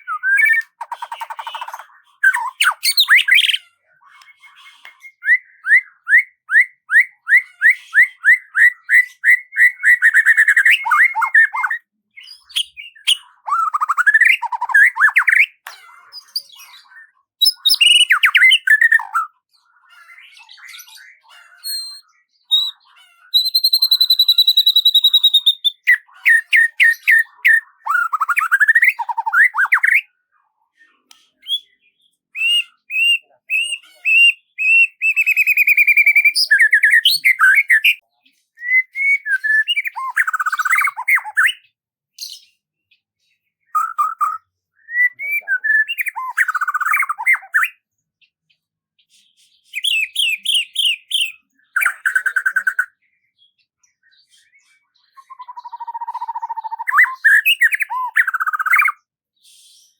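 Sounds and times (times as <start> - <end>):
songbird singing: 0.0 - 30.1, 30.9 - 59.2.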